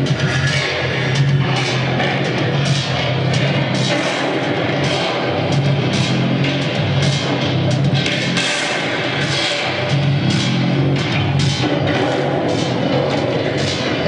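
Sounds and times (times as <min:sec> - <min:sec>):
industrial noise music: 0:00.0 - 0:14.0.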